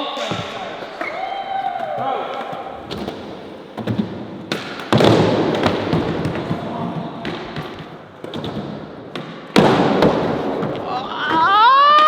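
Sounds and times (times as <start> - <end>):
skateboard landing: 0.2 - 12.0.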